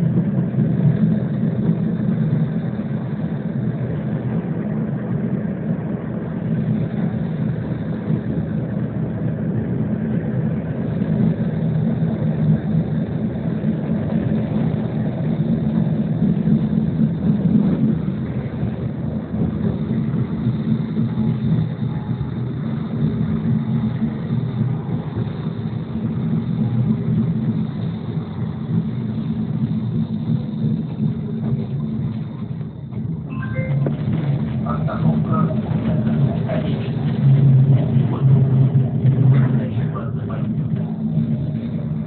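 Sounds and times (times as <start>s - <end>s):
tram wheels rumbling on rails: 0.0s - 42.0s.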